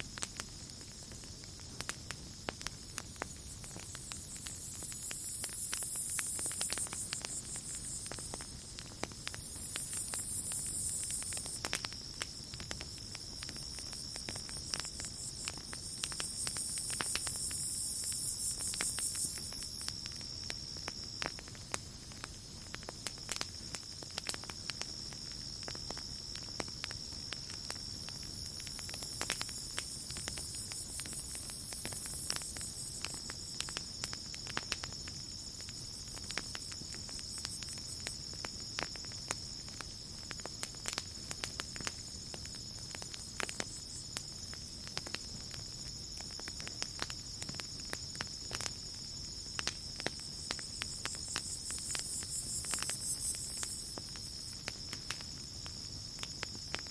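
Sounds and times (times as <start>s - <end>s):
campfire crackling and popping: 0.0s - 56.9s
night insects droning: 0.0s - 56.9s.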